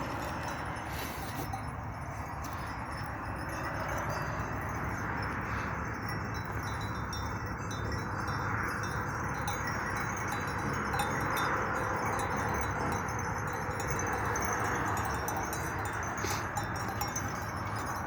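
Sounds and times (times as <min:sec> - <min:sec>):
sheep bells clinking: 0:00.0 - 0:18.0.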